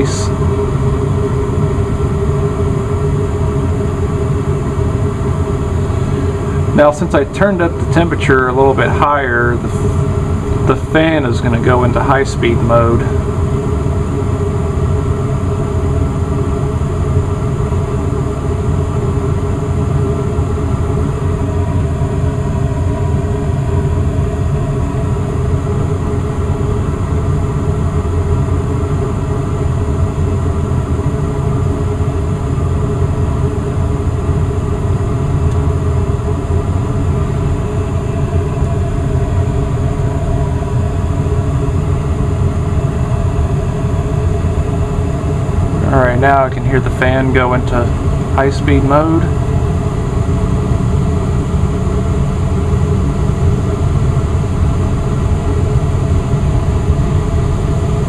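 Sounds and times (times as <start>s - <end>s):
gas furnace blower humming: 0.0s - 58.0s.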